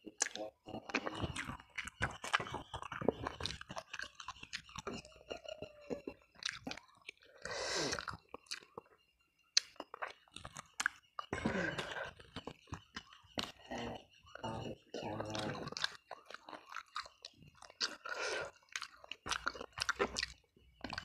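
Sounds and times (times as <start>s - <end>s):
close chewing with wet smacks: 0.0s - 21.0s.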